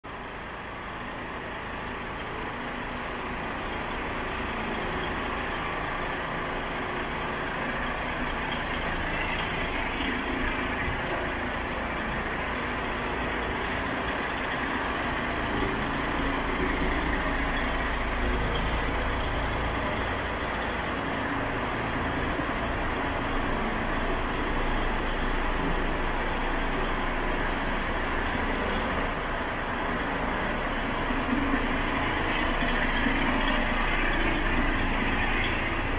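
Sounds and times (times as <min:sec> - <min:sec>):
diesel truck engine idling: 0:00.0 - 0:35.9.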